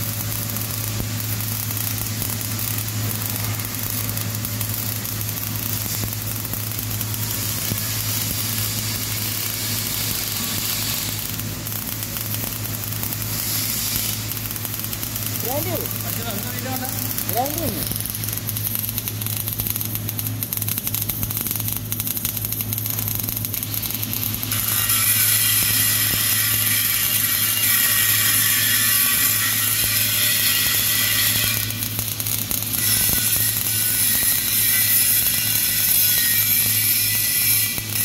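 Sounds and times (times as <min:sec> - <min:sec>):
constant low hum: 0:00.0 - 0:38.0
welding arc crackle: 0:00.0 - 0:38.0.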